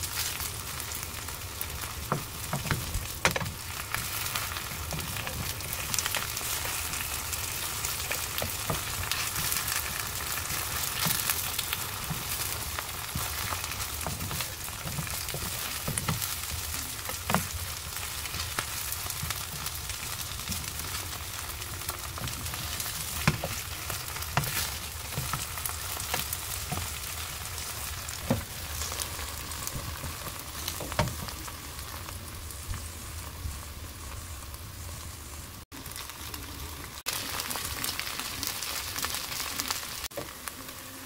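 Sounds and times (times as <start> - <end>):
battered leaves sizzling in oil: 0.0 - 41.0.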